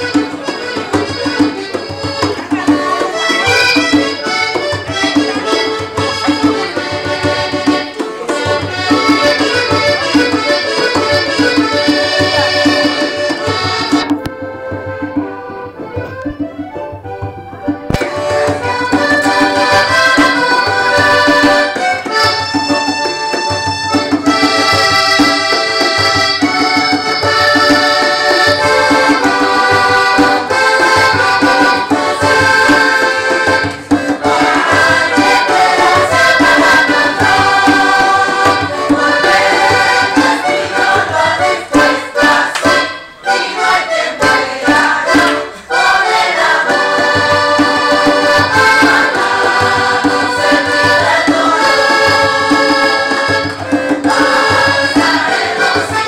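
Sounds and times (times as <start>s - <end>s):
hand drum beating: 0.0s - 42.9s, 44.2s - 56.0s
button accordion playing folk tune: 0.0s - 56.0s.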